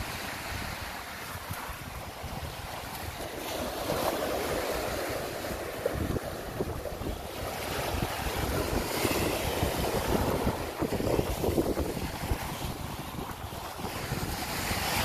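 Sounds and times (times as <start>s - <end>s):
surf breaking on a beach: 0.0s - 15.0s
wind buffeting microphone: 0.0s - 15.0s.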